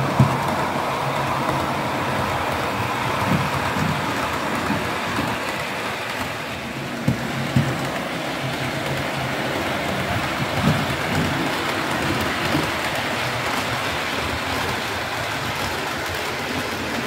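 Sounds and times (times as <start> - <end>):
model train whirring rattle: 0.0 - 17.0
wheels clicking over rail joints: 0.0 - 17.0.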